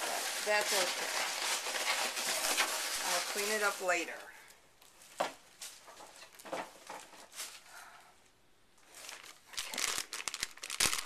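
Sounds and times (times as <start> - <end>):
plastic bag crinkling: 0.0 - 7.6, 8.8 - 11.0.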